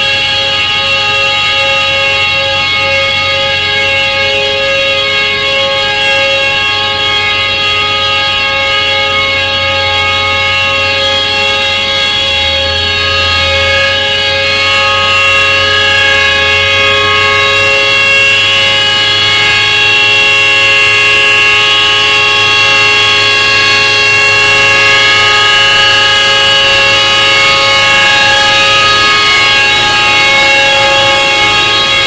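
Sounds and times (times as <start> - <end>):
truck air horn blast: 0.0 - 32.0
truck engine hum: 0.0 - 32.0.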